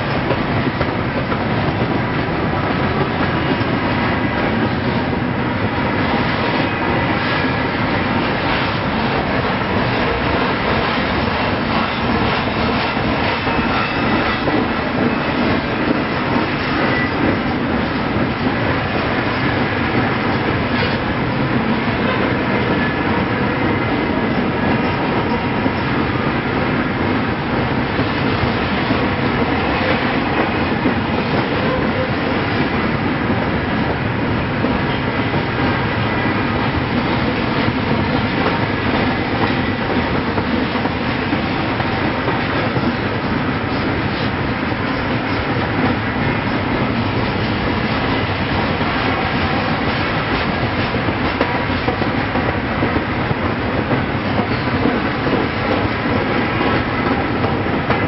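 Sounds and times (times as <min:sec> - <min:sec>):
steel wheels rumbling on rails: 0:00.0 - 0:58.0.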